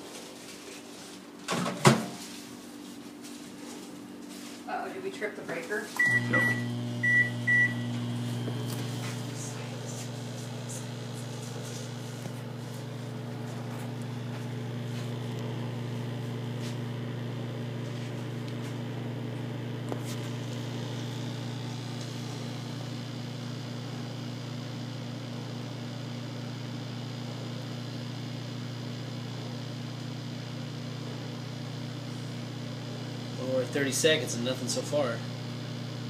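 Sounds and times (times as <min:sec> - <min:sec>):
microwave oven humming: 0:00.0 - 0:36.0.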